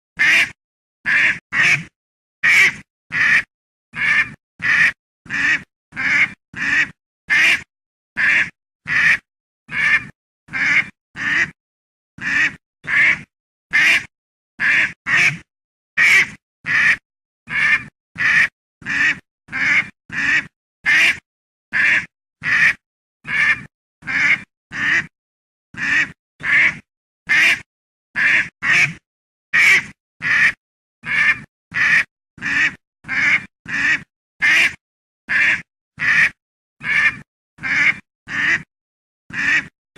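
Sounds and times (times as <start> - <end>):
duck quacking: 0.2 - 0.5, 1.1 - 11.6, 12.2 - 15.4, 16.0 - 25.1, 25.8 - 29.0, 29.6 - 38.7, 39.3 - 39.7.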